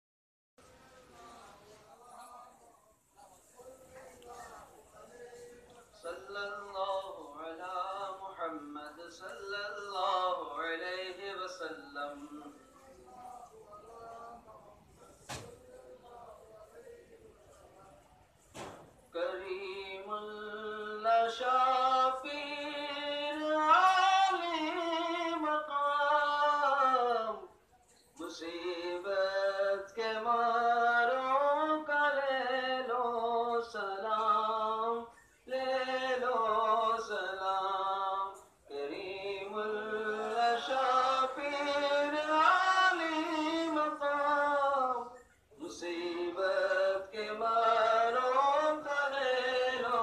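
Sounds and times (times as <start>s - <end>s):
unaccompanied devotional singing: 3.8s - 16.9s, 18.6s - 27.6s, 28.2s - 50.0s.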